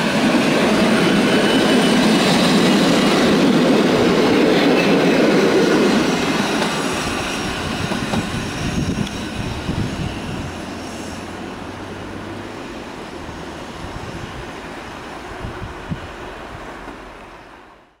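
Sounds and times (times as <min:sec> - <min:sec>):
train coaches rumbling past: 0:00.0 - 0:18.0.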